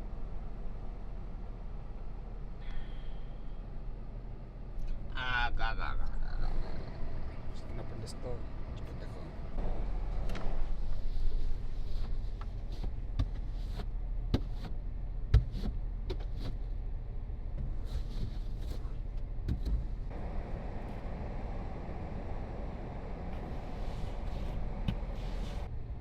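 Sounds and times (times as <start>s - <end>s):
car engine running: 3.3s - 26.0s.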